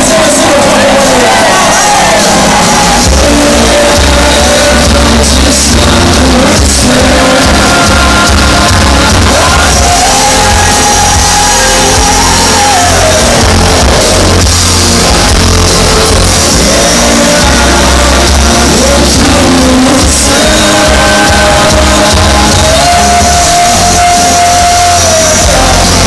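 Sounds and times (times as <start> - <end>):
live rock band: 0.0 - 26.0.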